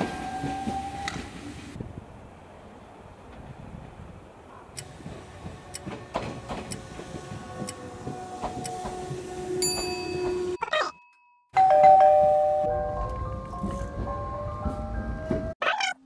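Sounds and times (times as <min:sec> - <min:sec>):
electric train arriving: 0:00.0 - 0:10.6, 0:11.6 - 0:15.6.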